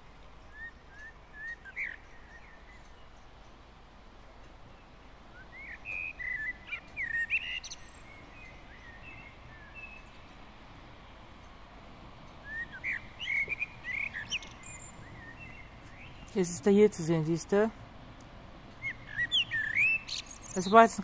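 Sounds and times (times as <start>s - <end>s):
faint outdoor hiss: 0.0s - 21.0s
songbird singing: 0.0s - 21.0s.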